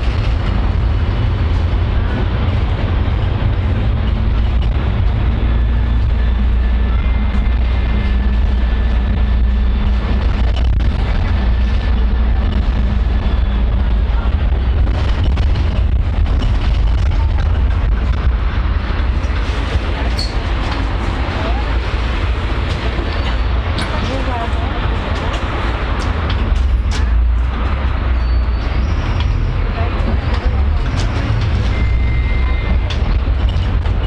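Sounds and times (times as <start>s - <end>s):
road noise: 0.0s - 34.0s
vehicle engine low rumble: 0.0s - 34.0s.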